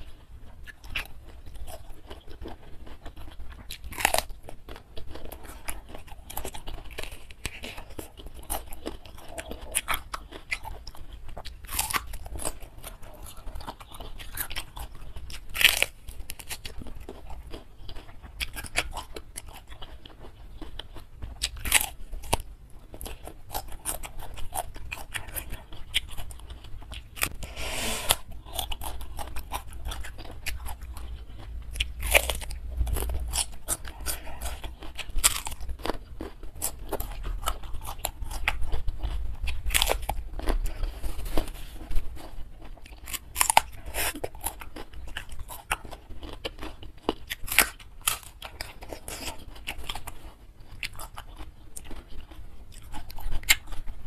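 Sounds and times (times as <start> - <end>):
crisp chewing crunches: 0.0 - 54.0.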